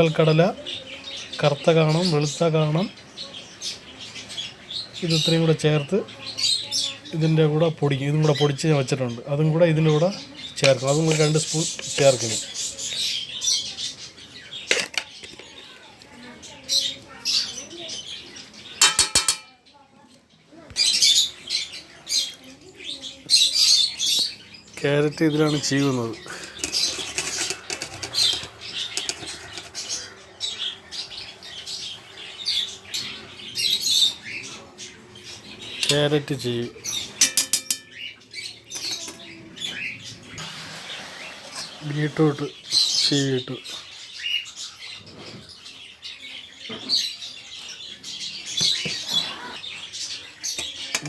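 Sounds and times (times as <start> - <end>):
lovebirds squawking and chirping: 0.0 - 51.0.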